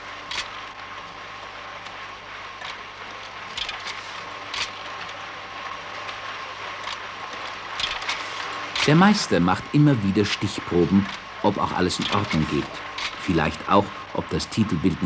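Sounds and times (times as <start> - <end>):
constant hum: 0.0 - 15.0
machine running: 0.0 - 15.0.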